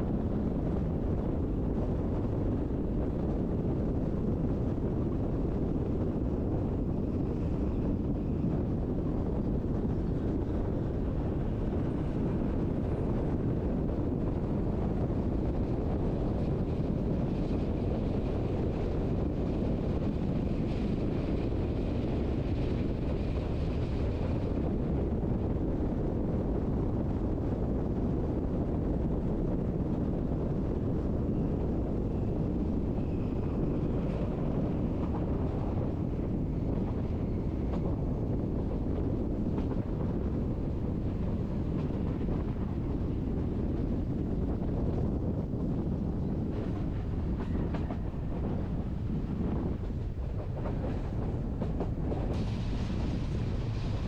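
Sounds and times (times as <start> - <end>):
train rumbling along track: 0.0 - 54.0
wind on microphone: 0.0 - 54.0.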